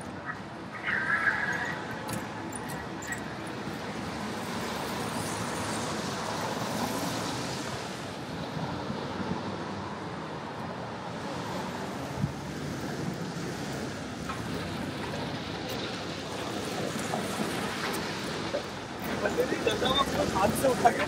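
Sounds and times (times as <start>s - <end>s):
traffic on wet pavement: 0.0s - 21.0s.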